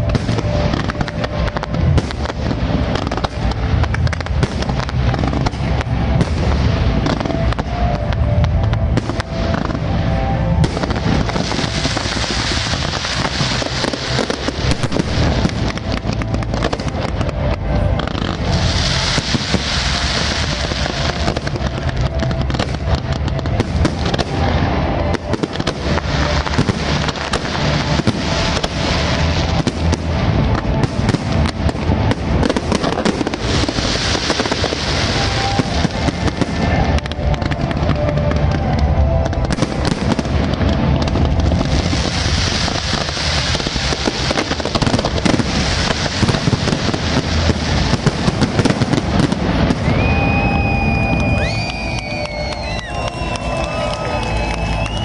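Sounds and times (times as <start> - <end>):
fireworks crackling: 0.0 - 55.0
fireworks launching and banging: 0.0 - 55.0.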